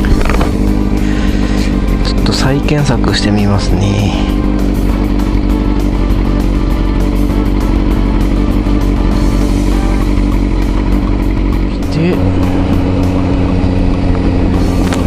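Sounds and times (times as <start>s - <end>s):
background music: 0.0s - 15.0s
motorcycle engine idling: 0.0s - 15.0s.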